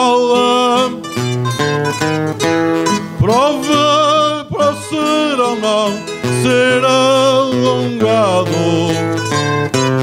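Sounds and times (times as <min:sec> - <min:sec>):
man singing: 0:00.0 - 0:01.7, 0:02.9 - 0:10.0
plucked string instruments: 0:00.0 - 0:10.0.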